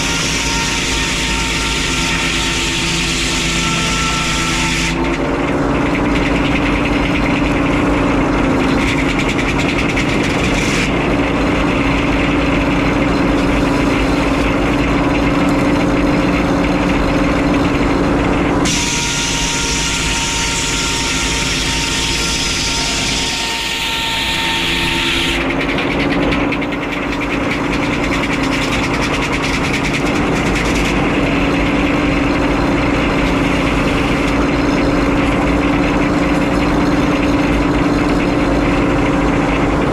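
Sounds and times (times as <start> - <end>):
circular sawmill running: 0.0 - 39.9
high whine: 0.0 - 39.9.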